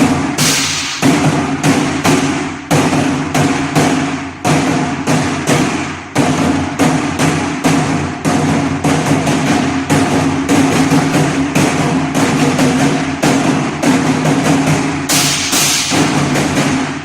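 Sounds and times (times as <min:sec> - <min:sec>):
drums struck with sticks: 0:00.0 - 0:17.0.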